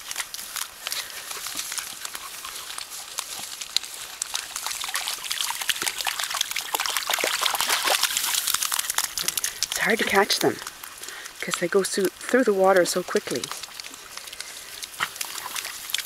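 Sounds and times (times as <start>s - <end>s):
puppies splashing in water: 0.0s - 16.0s.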